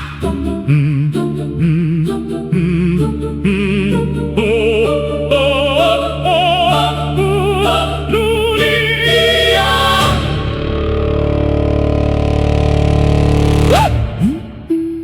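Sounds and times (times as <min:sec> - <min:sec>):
operatic singing voice: 0:00.0 - 0:11.6, 0:13.6 - 0:15.0
sustained low notes: 0:00.0 - 0:15.0.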